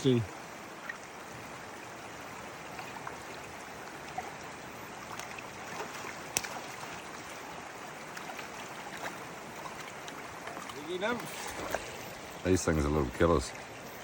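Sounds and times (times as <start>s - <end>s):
river water over stones: 0.0s - 14.0s.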